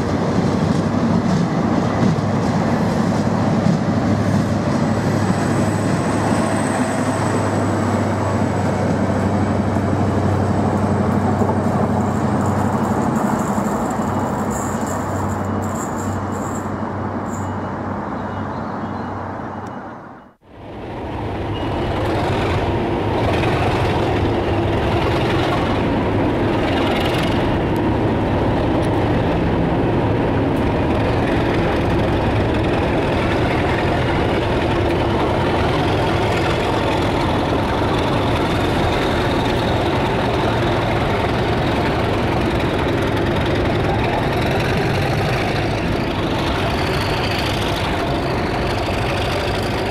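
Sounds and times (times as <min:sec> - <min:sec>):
train running: 0:00.0 - 0:19.8, 0:20.4 - 0:49.9
diesel locomotive engine humming: 0:00.0 - 0:49.9.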